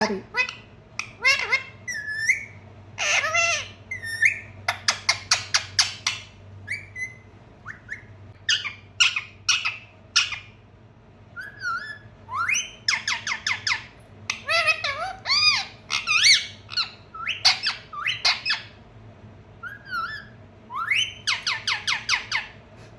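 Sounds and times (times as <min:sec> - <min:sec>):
parrot chirping and squawking: 0:00.0 - 0:10.6, 0:11.4 - 0:18.8, 0:19.6 - 0:22.7
parrot whistling: 0:00.4 - 0:10.5, 0:11.4 - 0:18.8, 0:19.6 - 0:22.6.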